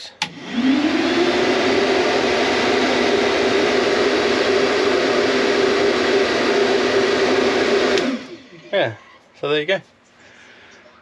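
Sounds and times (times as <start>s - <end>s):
fan rushing air: 0.0s - 9.7s
low fan hum: 0.0s - 11.0s.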